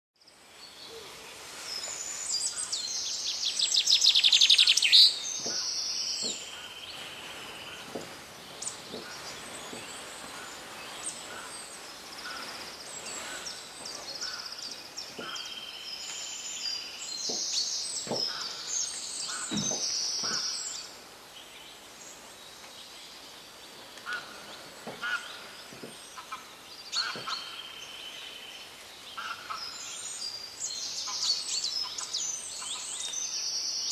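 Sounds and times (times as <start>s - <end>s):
birds chirping and trilling: 0.2s - 33.9s.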